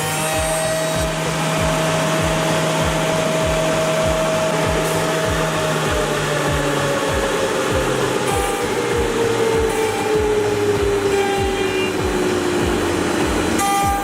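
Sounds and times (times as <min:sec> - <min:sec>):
low hum: 0:00.0 - 0:14.0
milling machine motor whine: 0:00.0 - 0:14.0
regular low thump: 0:00.4 - 0:14.0.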